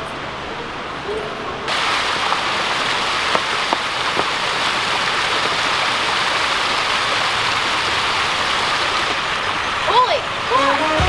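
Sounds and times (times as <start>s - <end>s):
fountain water splashing: 1.7s - 11.0s.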